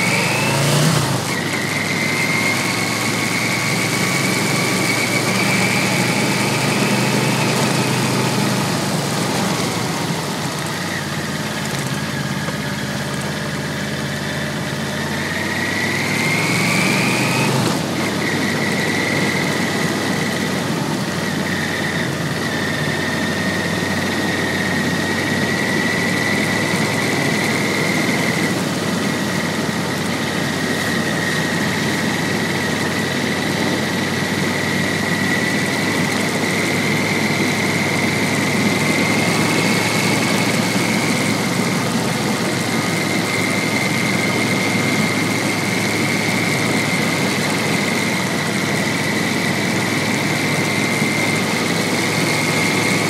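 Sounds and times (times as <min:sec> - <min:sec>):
motorcycle engine running: 0:00.0 - 0:53.0
thin steady whistle: 0:00.0 - 0:53.0.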